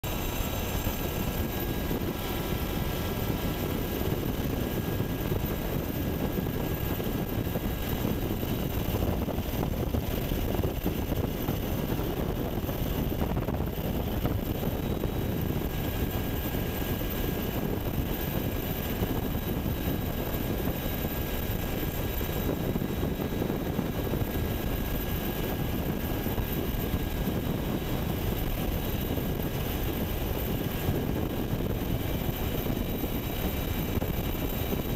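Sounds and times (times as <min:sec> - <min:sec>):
helicopter rotor and engine drone: 0:00.0 - 0:34.9.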